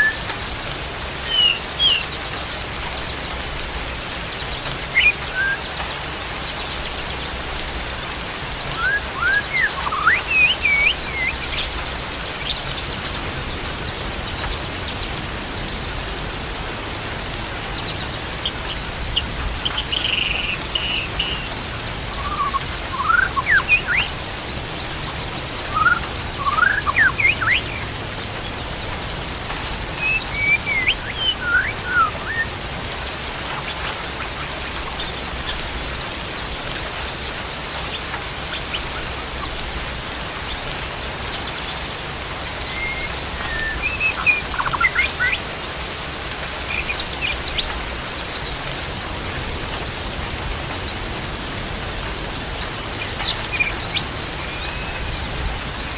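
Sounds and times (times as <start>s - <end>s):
hiss of rain or running water: 0.0s - 55.9s
songbirds chirping: 0.0s - 55.9s.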